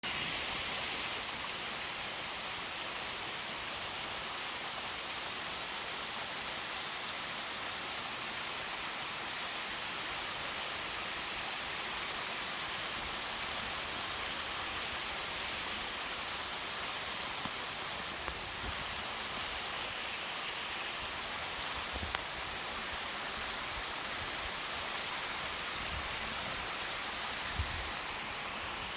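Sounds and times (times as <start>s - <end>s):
steady rushing hiss: 0.0s - 28.9s.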